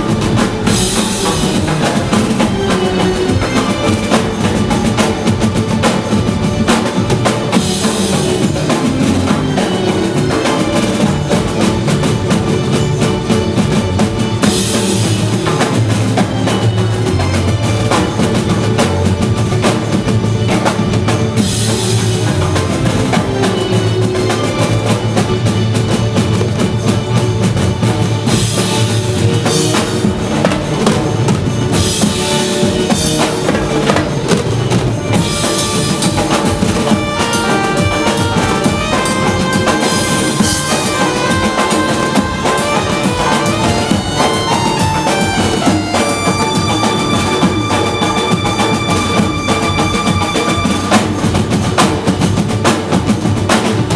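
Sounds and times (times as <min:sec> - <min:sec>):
melody of long held notes: 0:00.0 - 0:52.6
fast drumming with bass drum: 0:00.0 - 0:53.9.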